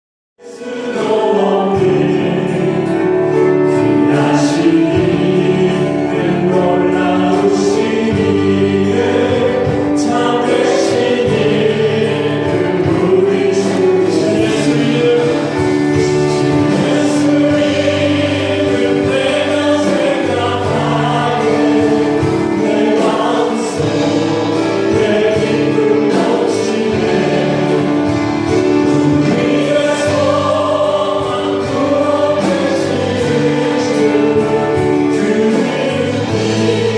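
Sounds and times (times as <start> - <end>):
group singing worship song: 0.4 - 36.9
instrumental accompaniment: 0.4 - 36.9.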